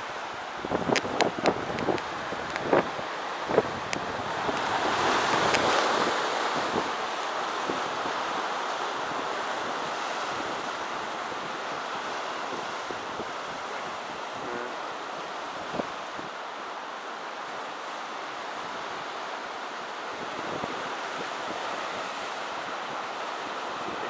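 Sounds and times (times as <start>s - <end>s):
wind on microphone: 0.0s - 16.5s, 20.0s - 24.0s
surf washing onto beach: 0.0s - 24.0s.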